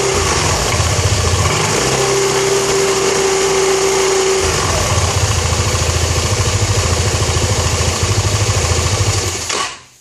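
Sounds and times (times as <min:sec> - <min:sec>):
scooter engine pulsing: 0:00.0 - 0:09.6.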